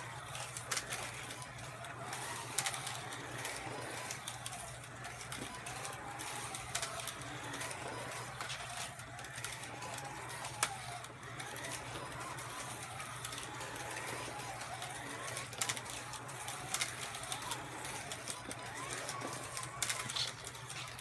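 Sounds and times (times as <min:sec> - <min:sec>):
slot car motors whining: 0:00.0 - 0:21.0.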